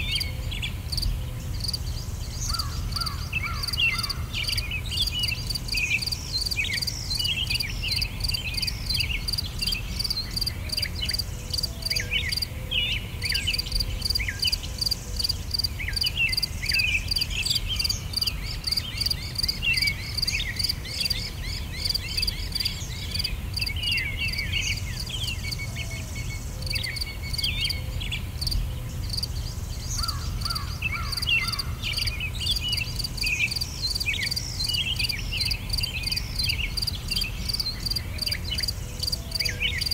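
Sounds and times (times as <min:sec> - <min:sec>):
birds chirping: 0:00.0 - 0:39.9
insects chirping: 0:00.0 - 0:39.9.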